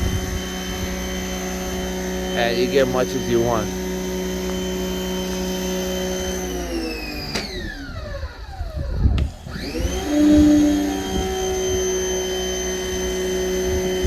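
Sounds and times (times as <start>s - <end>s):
pressure washer motor running: 0.0s - 14.0s.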